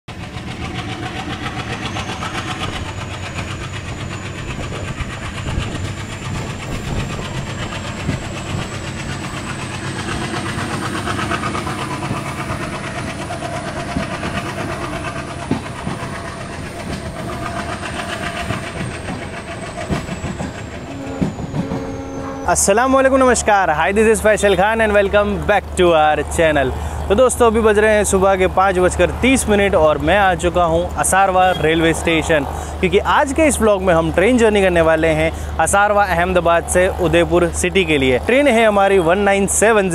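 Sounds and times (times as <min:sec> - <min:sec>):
diesel locomotive engine running: 0:00.1 - 0:39.9
wheel and rail noise: 0:00.1 - 0:39.9.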